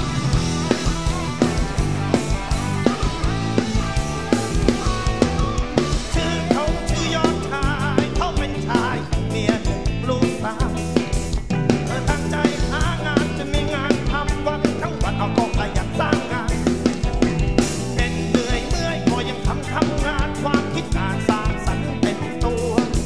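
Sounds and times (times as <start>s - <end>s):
bending electric guitar lead: 0.0s - 23.0s
live rock band: 0.0s - 23.0s.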